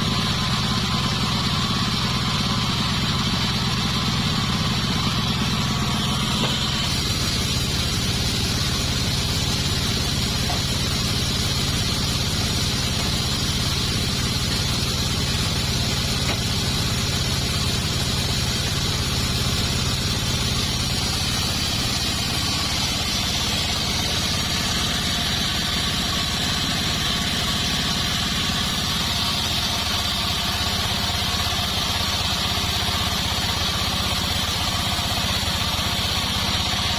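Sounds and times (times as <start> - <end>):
band sawmill running: 0.0 - 36.9.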